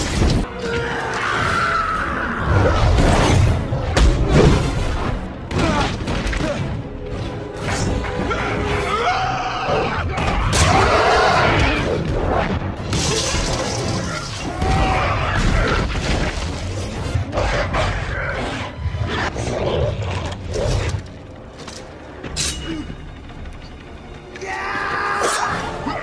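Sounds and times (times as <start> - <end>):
orchestral score: 0.0 - 26.0.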